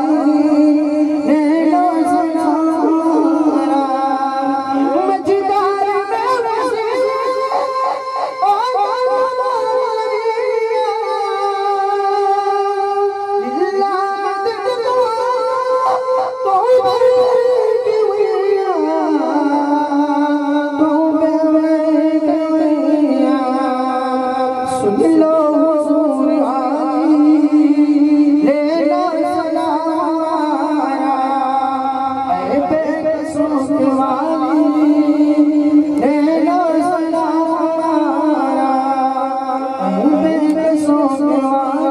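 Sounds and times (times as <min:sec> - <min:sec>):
man singing a chant: 0:00.0 - 0:41.9.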